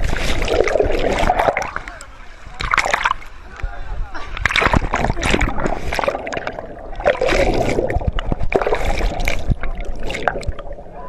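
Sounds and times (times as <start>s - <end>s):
bubbles rushing: 0.0s - 2.0s, 2.6s - 3.3s, 4.4s - 11.0s
water gurgling underwater: 0.0s - 2.0s, 2.6s - 3.3s, 4.4s - 11.0s.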